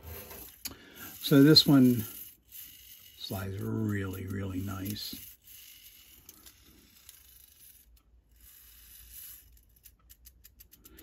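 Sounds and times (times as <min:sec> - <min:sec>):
light scraping and rubbing: 0:00.0 - 0:10.9.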